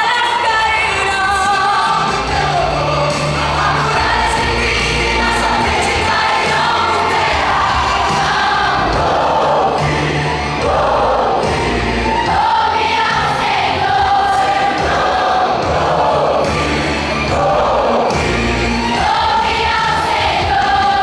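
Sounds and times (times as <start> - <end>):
choir singing gospel: 0.0 - 21.0.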